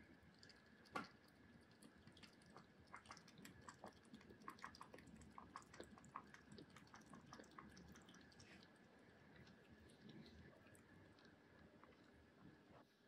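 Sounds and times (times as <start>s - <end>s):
kitten lapping water: 0.0s - 12.8s.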